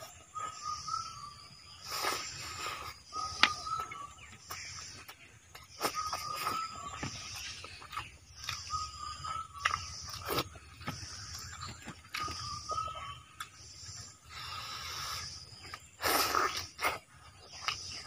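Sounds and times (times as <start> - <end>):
man chewing: 0.0 - 18.0.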